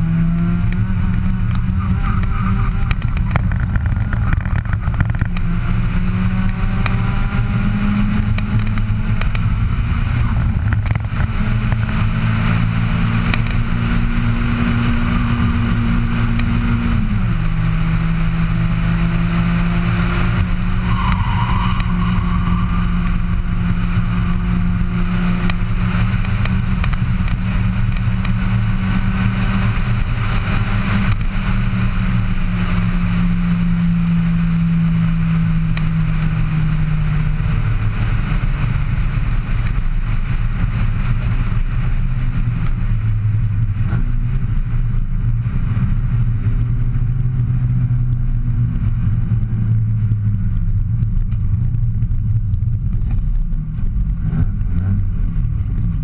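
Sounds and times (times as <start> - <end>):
race car engine at high revs: 0.0 - 56.0
road and wind noise: 0.0 - 56.0.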